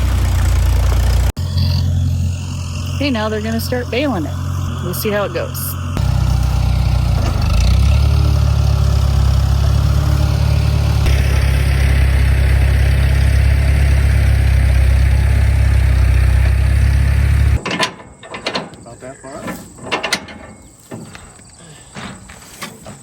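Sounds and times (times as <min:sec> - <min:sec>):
tractor engine running: 0:00.0 - 0:18.9.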